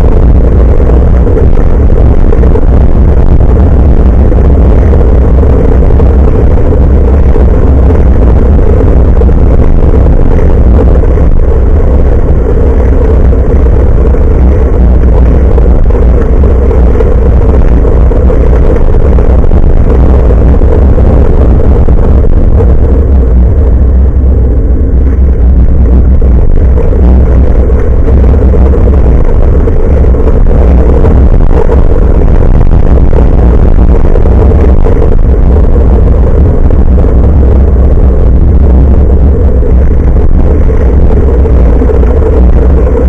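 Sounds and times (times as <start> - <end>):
road noise: 0.0 - 43.0
wind rumble on microphone: 0.0 - 43.0.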